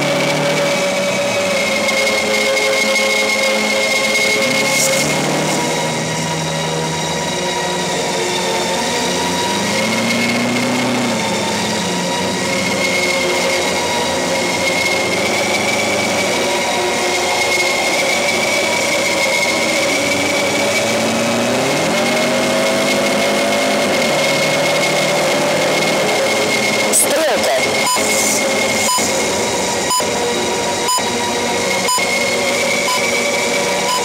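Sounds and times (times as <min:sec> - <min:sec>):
car engine accelerating: 0:00.0 - 0:34.0
road noise inside car: 0:00.0 - 0:34.0.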